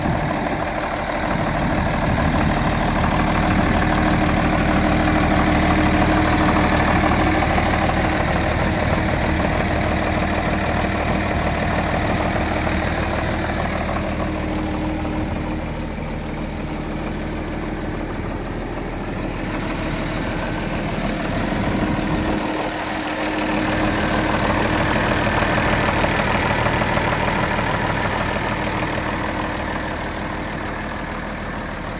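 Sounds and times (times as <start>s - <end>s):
tractor diesel engine idling: 0.0s - 31.9s.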